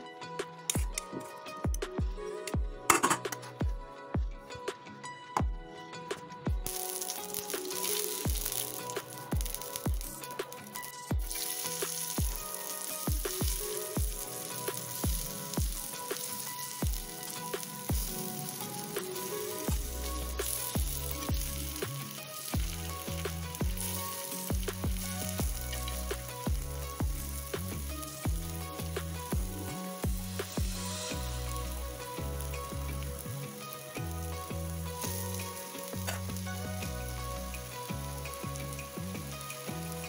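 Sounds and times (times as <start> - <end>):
background music with beat: 0.0 - 40.0
slices sizzling in oil: 6.6 - 40.0.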